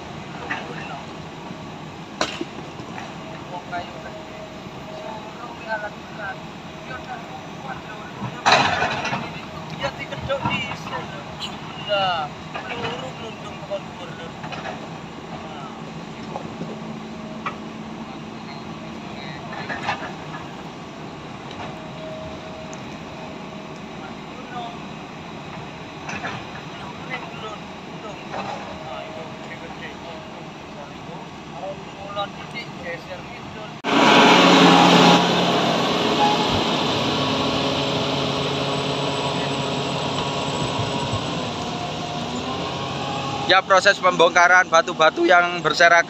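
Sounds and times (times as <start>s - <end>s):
excavator diesel engines running: 0.0s - 46.0s.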